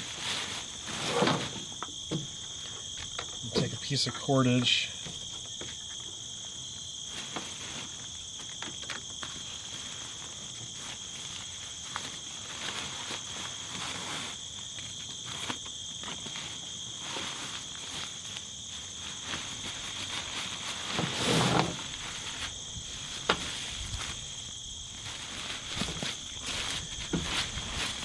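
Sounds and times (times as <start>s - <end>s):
tarp and cord rustling: 0.0s - 2.9s, 7.0s - 28.0s
insect chorus: 0.0s - 28.0s.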